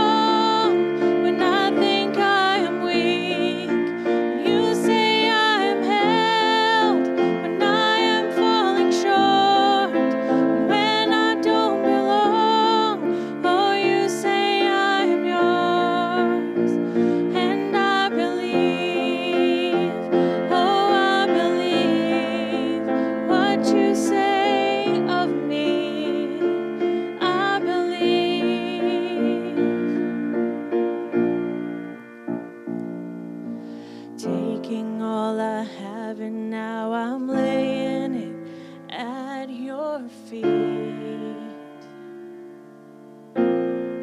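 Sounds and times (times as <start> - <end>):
person singing with vibrato: 0.0 - 30.7, 33.8 - 42.5
piano: 0.0 - 44.0.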